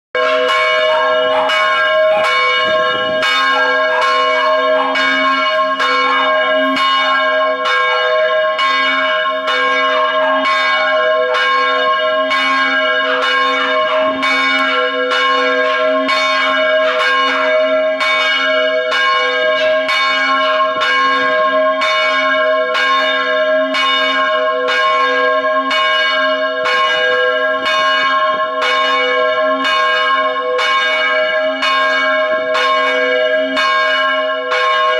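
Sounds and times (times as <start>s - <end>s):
church bell ringing: 0.2s - 34.9s.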